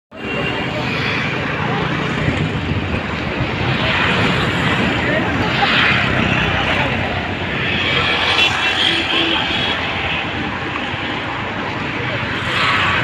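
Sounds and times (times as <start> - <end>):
boat engines droning: 0.1 - 13.0
river traffic rumble: 0.1 - 13.0.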